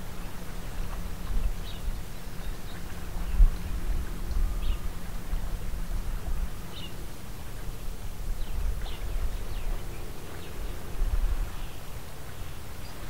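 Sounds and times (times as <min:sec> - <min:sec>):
steady low rumble: 0:00.0 - 0:11.8.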